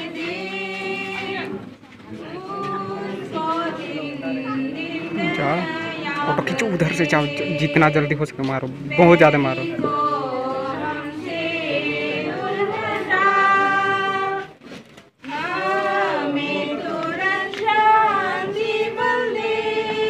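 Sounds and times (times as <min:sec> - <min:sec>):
group singing unaccompanied: 0:00.0 - 0:20.0.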